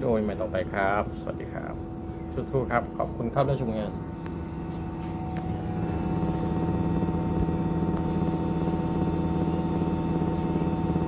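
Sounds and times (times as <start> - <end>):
air conditioner hum: 0.0 - 11.0
constant higher tones: 0.0 - 11.0.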